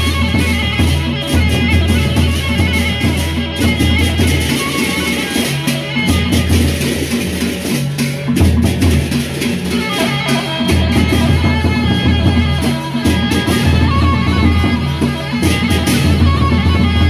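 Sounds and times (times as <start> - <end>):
barrel drums beaten: 0.0 - 17.0
hand cymbals clashing: 0.1 - 13.9.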